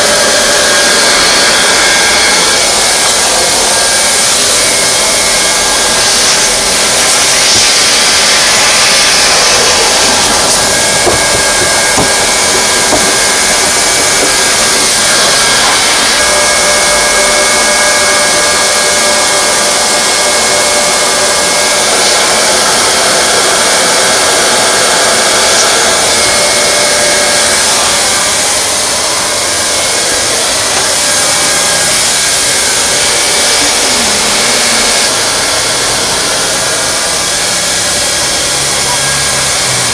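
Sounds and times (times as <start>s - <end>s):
hot-air welding gun blowing: 0.0s - 39.9s.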